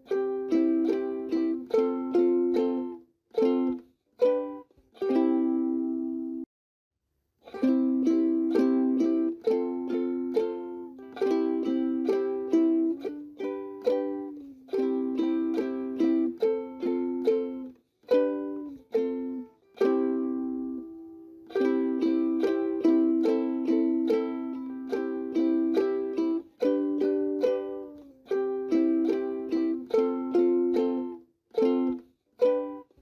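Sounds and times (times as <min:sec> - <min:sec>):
light bouncy plucked tune: 0:00.0 - 0:06.5, 0:07.4 - 0:33.0.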